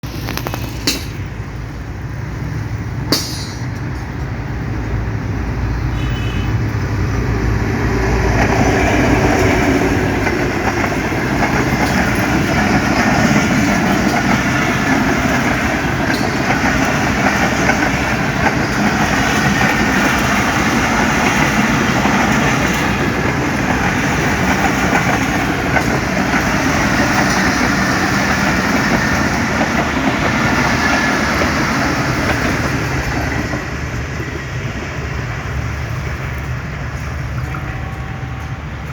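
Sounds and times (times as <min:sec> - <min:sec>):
train passing at speed: 0:00.0 - 0:38.9.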